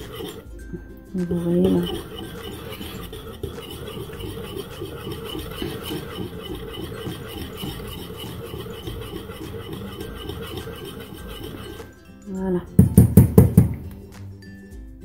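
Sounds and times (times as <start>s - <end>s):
metal whisk scraping a saucepan: 0.0s - 12.5s.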